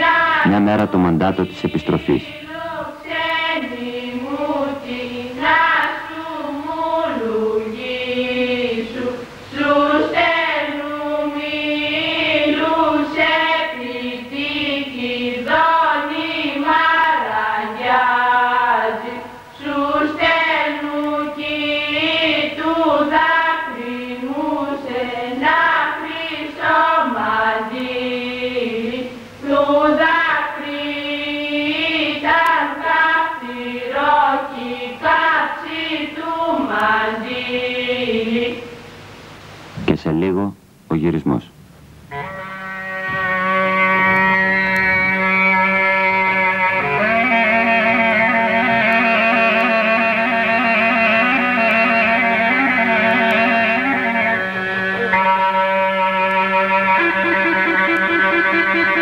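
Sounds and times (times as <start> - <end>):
person singing unaccompanied: 0.0 - 38.8, 42.1 - 59.0.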